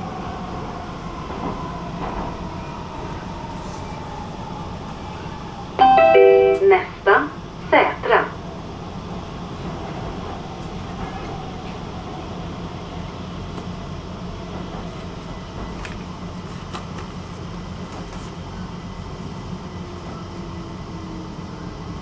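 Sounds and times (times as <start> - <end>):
train wheels rumbling on rails: 0.0 - 5.8, 6.7 - 22.0.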